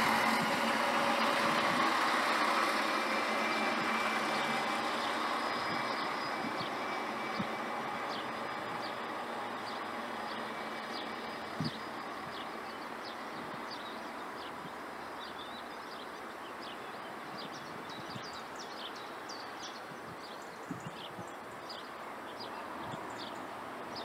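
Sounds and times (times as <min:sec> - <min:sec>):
train rumbling: 0:00.0 - 0:20.0
small birds chirping: 0:00.0 - 0:24.0.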